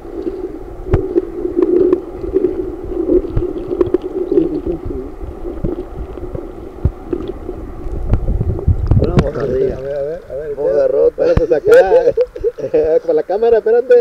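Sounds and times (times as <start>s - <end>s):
underwater stream drone: 0.0s - 14.0s.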